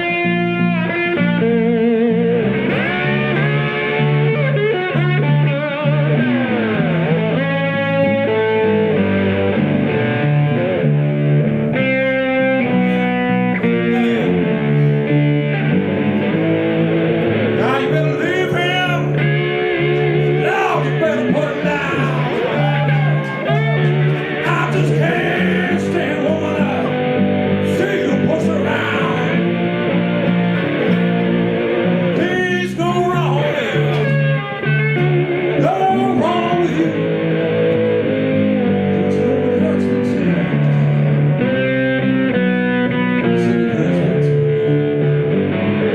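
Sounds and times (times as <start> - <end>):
bass line on guitar: 0.0 - 45.9
electric guitar lead lines: 0.0 - 45.9.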